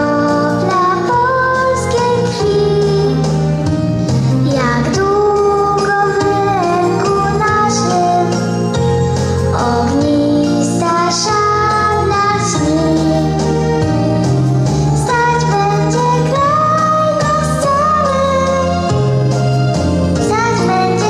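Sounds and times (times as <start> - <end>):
backing music with bass line: 0.0 - 21.0.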